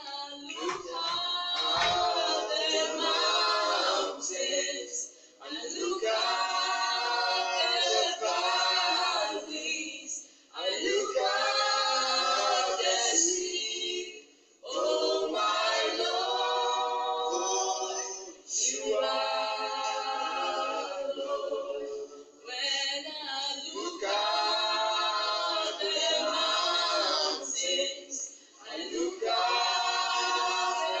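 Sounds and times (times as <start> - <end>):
group singing a hymn: 0.0 - 31.0.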